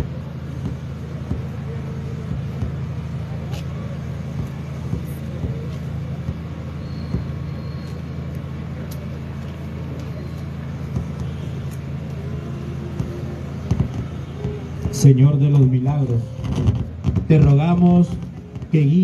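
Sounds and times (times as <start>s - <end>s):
faint crowd murmur: 0.0s - 19.0s
low engine hum: 0.0s - 19.0s.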